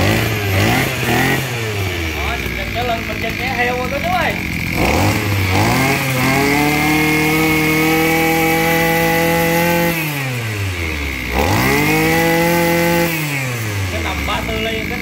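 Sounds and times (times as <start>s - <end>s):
brush cutter engine revving: 0.0s - 15.0s.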